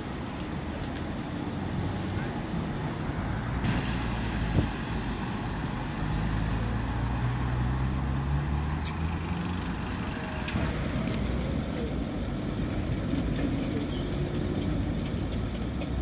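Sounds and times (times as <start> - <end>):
road and street noise: 0.0 - 16.0.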